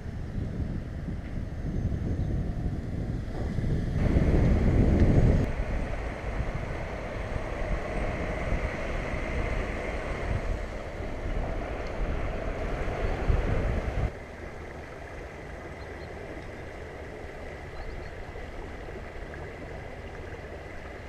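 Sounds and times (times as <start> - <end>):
steady rushing noise: 0.0 - 21.0
wind buffeting microphone: 0.0 - 21.0.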